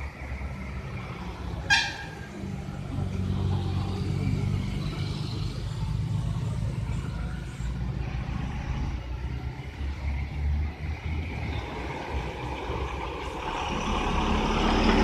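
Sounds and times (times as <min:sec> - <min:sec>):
diesel truck engine rumbling: 0:00.0 - 0:15.0
vehicles passing: 0:00.0 - 0:15.0.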